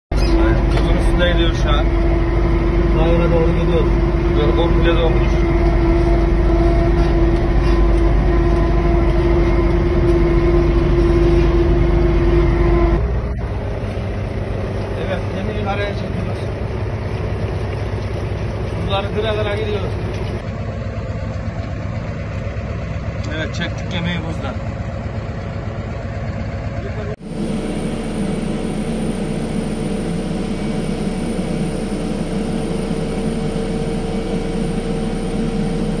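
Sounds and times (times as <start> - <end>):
vehicle engine rumble with whine: 0.1 - 36.0.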